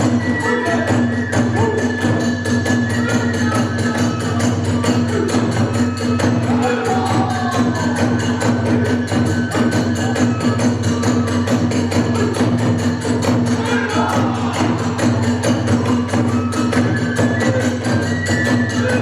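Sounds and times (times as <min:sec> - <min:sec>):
drums beating: 0:00.0 - 0:19.0
hand cymbals: 0:00.0 - 0:19.0.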